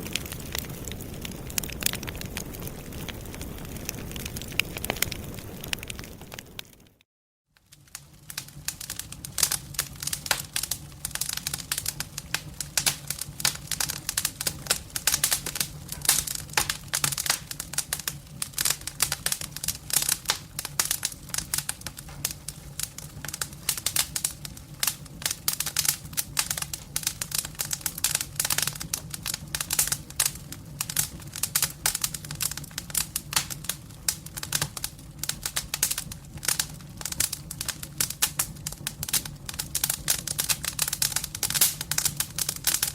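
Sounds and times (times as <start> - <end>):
campfire crackling: 0.0 - 7.0, 7.6 - 42.9.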